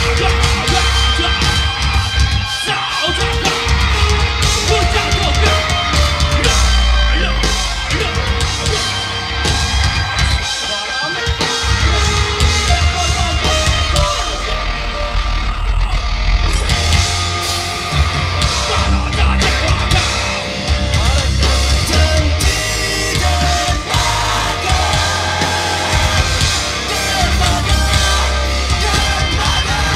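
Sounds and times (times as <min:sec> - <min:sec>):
singer's vocals: 0:00.0 - 0:17.2, 0:18.0 - 0:29.9
live rock band playing: 0:00.0 - 0:29.9.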